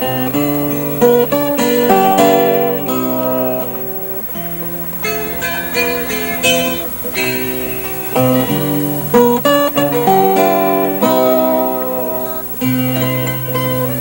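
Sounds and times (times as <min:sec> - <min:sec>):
guitar plucking a melody: 0:00.0 - 0:14.0.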